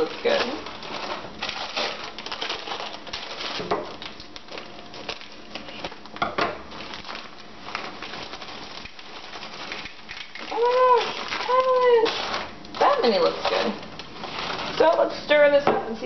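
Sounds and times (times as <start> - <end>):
candies rattling in glass bowl: 0.0 - 5.9, 6.7 - 15.3
plastic bag crinkling: 0.0 - 15.6.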